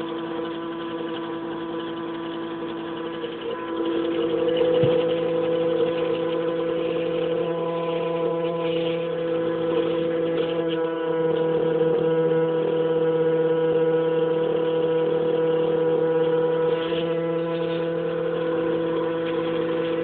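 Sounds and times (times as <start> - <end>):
water pipes humming: 0.0 - 20.0.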